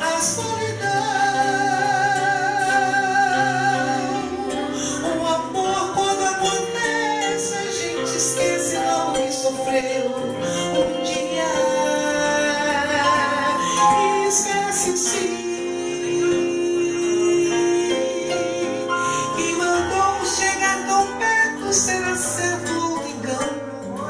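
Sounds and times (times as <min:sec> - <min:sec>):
acoustic guitar: 0:00.0 - 0:24.0
electronic keyboard: 0:00.0 - 0:24.0
woman singing into microphone: 0:00.0 - 0:24.0.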